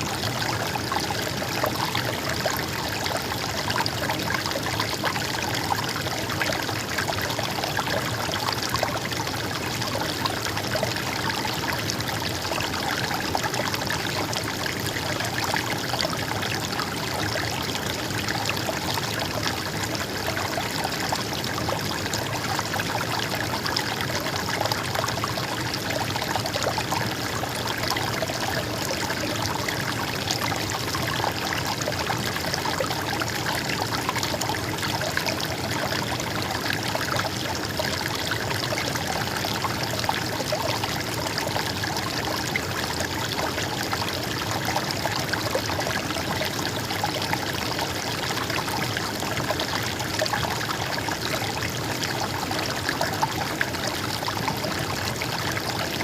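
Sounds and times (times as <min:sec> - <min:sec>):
stream of water trickling: 0:00.0 - 0:56.0.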